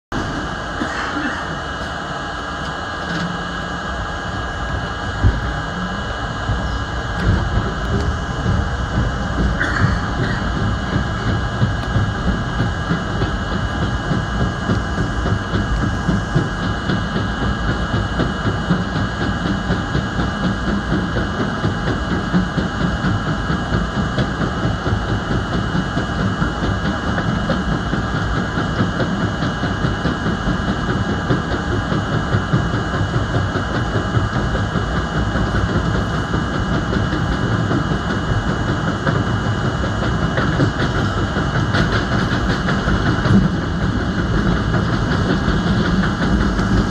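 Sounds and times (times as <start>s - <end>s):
train wheels on rail: 0.1s - 46.9s.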